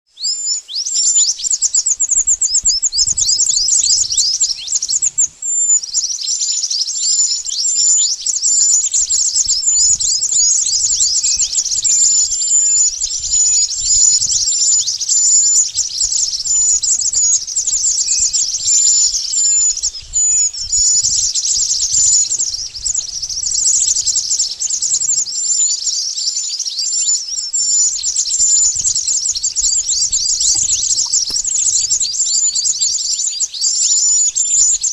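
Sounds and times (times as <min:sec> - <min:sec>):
bird chirps and twitters: 0:00.1 - 0:34.9.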